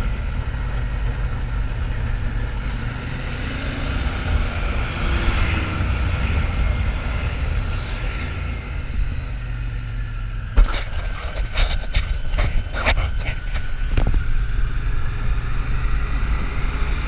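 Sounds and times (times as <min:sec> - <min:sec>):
rush of riding: 0:00.0 - 0:17.0.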